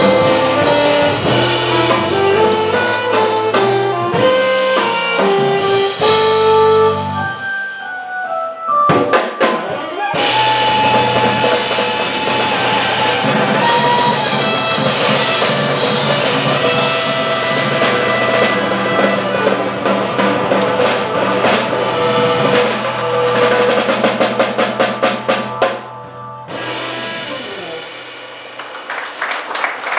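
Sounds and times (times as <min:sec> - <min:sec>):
drum kit with cymbals: 0:00.0 - 0:08.1, 0:08.9 - 0:28.9.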